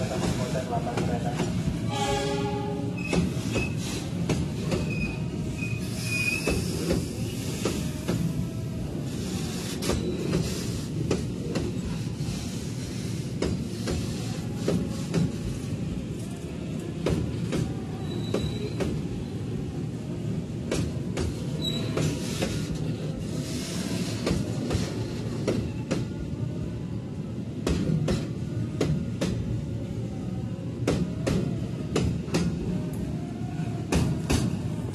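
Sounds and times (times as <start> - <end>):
train low rumble: 0.0 - 34.9.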